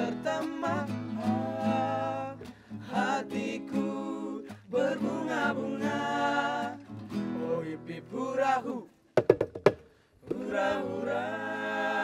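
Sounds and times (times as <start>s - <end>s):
vocal group singing in harmony: 0.0s - 9.0s, 10.2s - 12.0s.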